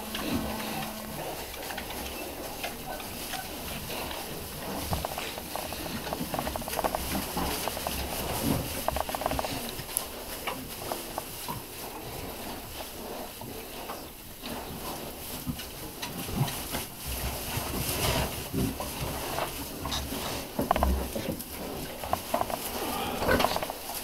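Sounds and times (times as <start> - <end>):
pigs grunting and snuffling: 0.0 - 24.0
pigs rooting in straw: 0.0 - 24.0.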